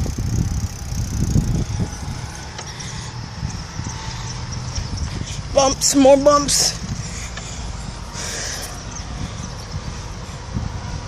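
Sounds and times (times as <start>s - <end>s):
bicycle rumbling over bumpy path: 0.0s - 11.0s
wheels knocking on bumps: 0.0s - 11.0s.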